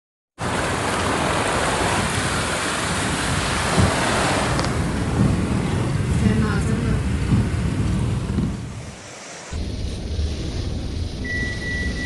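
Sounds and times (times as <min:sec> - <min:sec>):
floodwater rushing: 0:00.4 - 0:12.0
heavy rain: 0:00.4 - 0:12.0.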